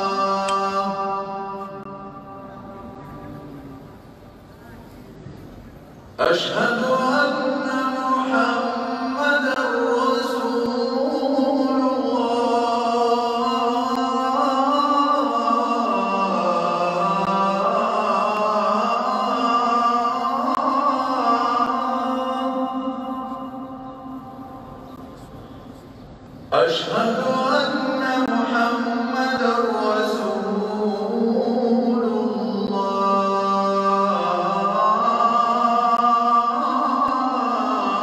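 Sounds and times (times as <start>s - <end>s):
slow vocal chanting: 0.0s - 4.3s, 6.2s - 25.5s, 26.5s - 38.0s.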